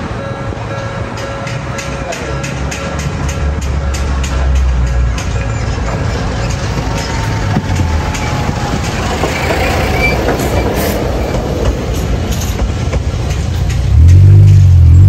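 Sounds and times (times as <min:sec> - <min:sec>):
tram clattering on rails: 0:00.0 - 0:15.0.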